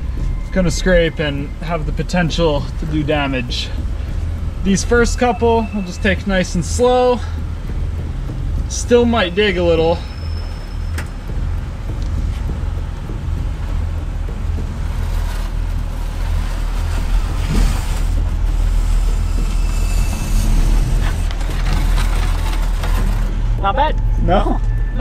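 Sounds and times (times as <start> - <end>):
truck knocking and scraping: 0.0 - 24.9
truck engine running low: 0.0 - 25.0.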